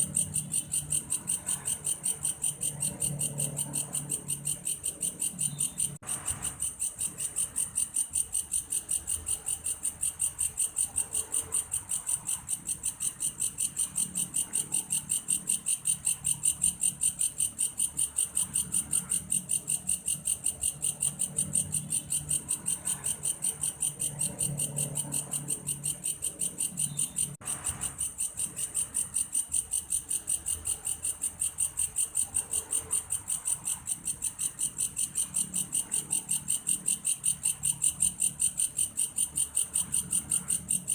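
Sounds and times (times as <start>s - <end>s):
grasshopper chirring: 0.0s - 40.9s.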